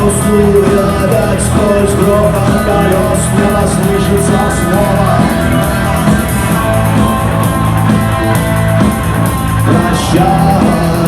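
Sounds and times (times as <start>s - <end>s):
drums: 0.0s - 11.0s
guitar: 0.0s - 11.0s
rock band playing: 0.0s - 11.0s
steady bass: 0.0s - 11.0s.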